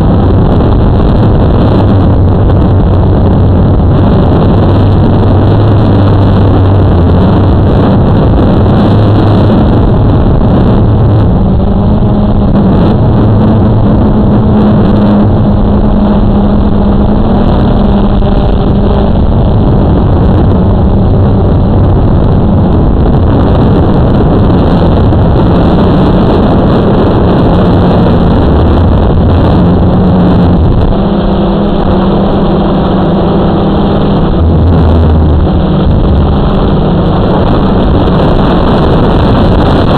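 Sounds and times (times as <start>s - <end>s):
drone motors humming: 0.0s - 39.9s
wind rumble on microphone: 0.0s - 39.9s.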